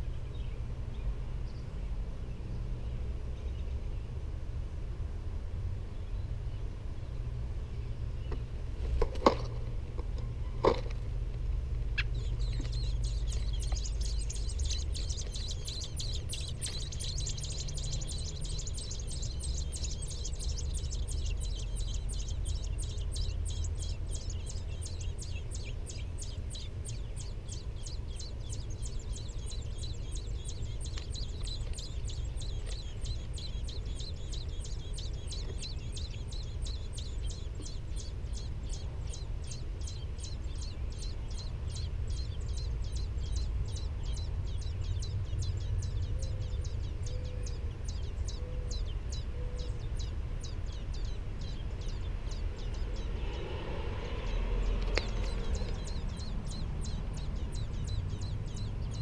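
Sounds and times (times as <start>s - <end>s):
low steady rumble: 0.0s - 59.0s
nestlings chirping: 8.1s - 59.0s.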